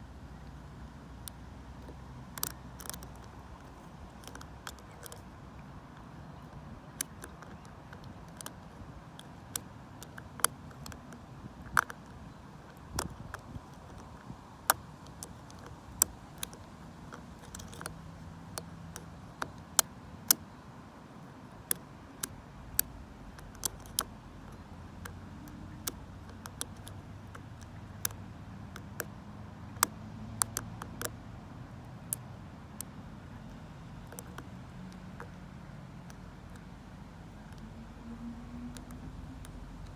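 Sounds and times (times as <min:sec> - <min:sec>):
lock pick metallic clicks: 0:00.3 - 0:20.6, 0:21.2 - 0:31.2, 0:32.0 - 0:39.9.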